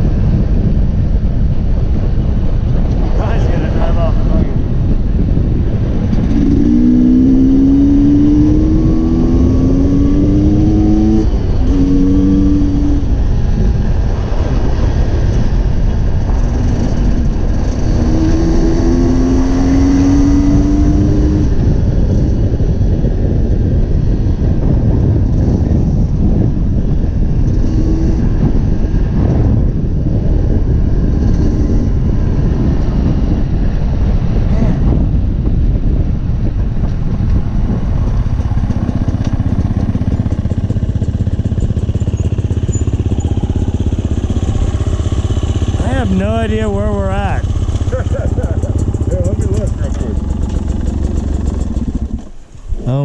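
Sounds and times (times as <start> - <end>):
dirt bike engine accelerating: 2.9 - 53.0.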